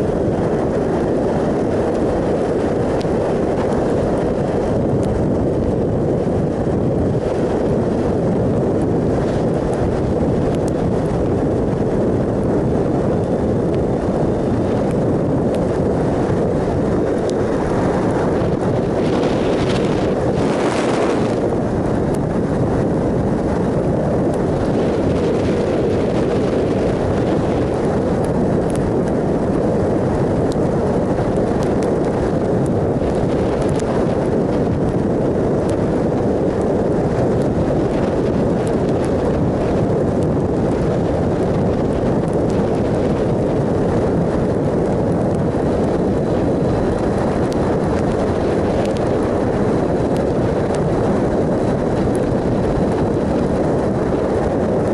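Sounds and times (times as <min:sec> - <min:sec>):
wind roar over microphone: 0:00.0 - 0:54.9.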